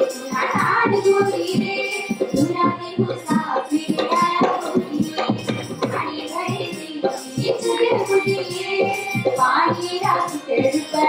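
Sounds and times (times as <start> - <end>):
dhol drum beat: 0.0 - 11.0
voices singing folk song: 0.0 - 11.0.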